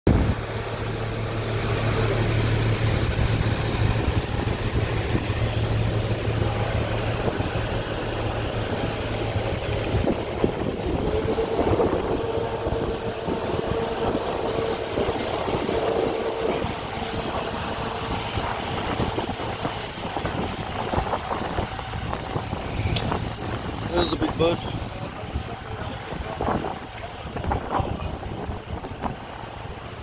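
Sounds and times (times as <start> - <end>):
low engine hum: 0.1 - 30.0
steady whine: 0.1 - 30.0
rushing background: 1.2 - 26.9.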